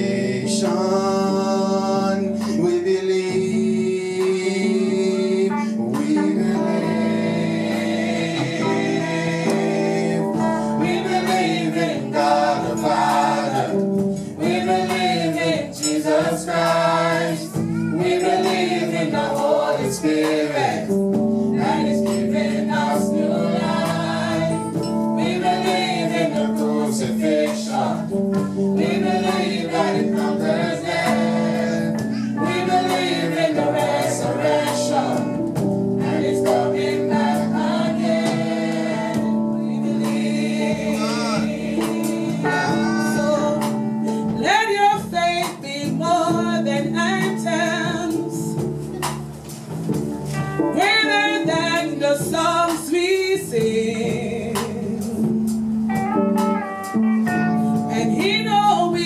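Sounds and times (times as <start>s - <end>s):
group singing gospel song: 0.0s - 49.7s, 50.3s - 56.7s, 57.5s - 59.0s
instrumental accompaniment: 0.0s - 59.0s.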